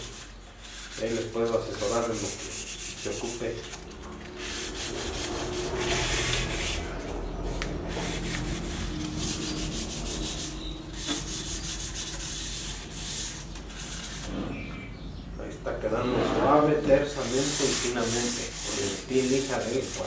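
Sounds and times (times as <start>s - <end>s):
sandpaper rubbing on wood: 0.0s - 14.3s, 16.9s - 20.0s.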